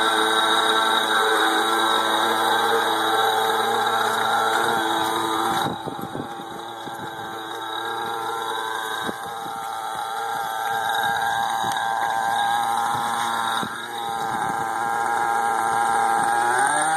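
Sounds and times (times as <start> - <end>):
model helicopter engine idling: 0.0 - 16.9.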